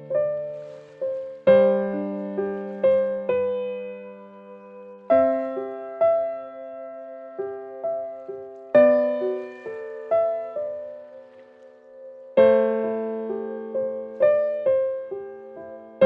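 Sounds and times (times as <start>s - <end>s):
slow gentle piano: 0.0s - 16.0s.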